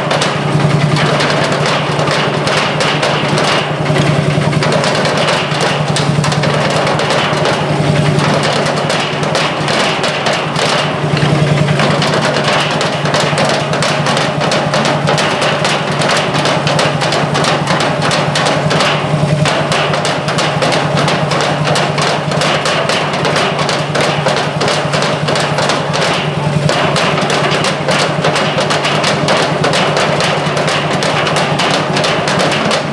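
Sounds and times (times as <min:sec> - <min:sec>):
drummers playing with sticks: 0:00.0 - 0:32.9.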